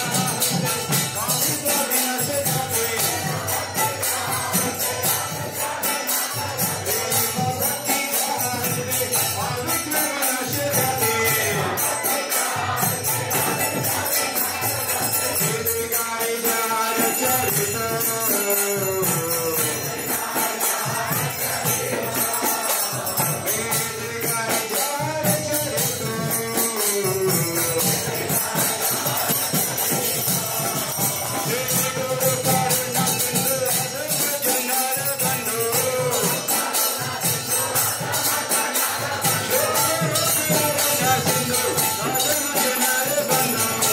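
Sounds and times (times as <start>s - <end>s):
group chanting a melody: 0.0s - 43.9s
small hand cymbals jingling: 0.0s - 43.9s.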